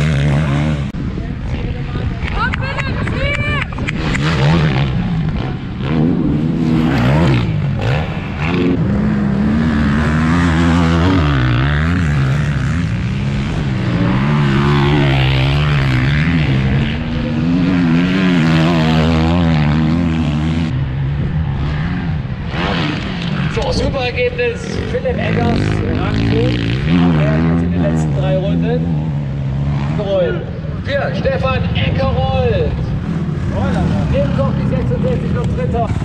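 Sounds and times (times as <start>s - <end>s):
motocross bike engines revving: 0.0s - 36.0s.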